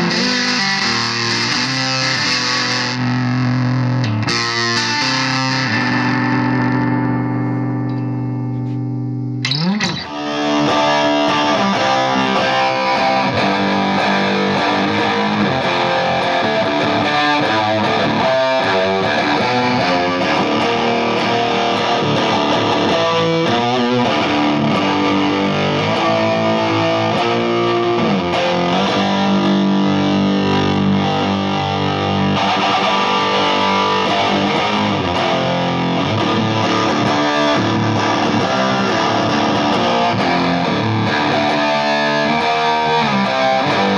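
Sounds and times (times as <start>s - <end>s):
distorted electric guitar: 0.0s - 43.9s.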